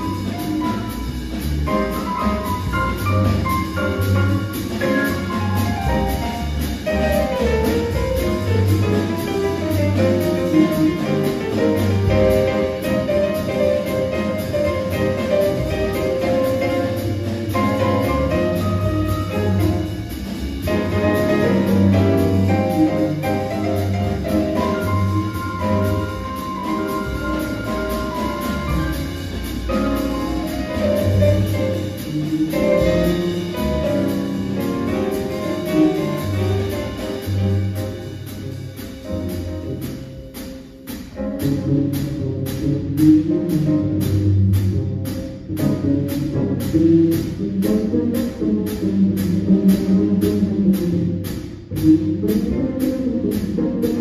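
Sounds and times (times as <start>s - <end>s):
jazz trio playing: 0.0s - 54.0s
piano notes: 0.0s - 54.0s
steady cymbal beat: 0.0s - 54.0s.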